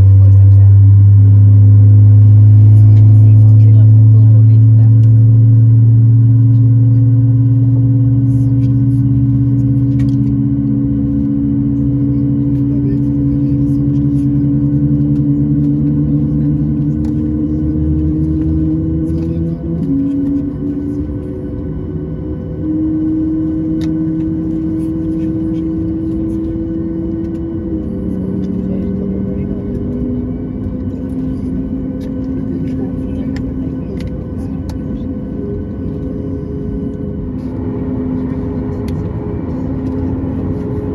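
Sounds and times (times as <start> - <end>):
aircraft cabin drone: 0.0 - 40.9.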